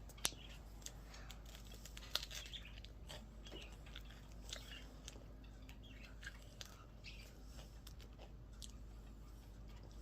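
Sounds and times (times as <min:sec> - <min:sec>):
mouth chewing: 0:00.0 - 0:10.0.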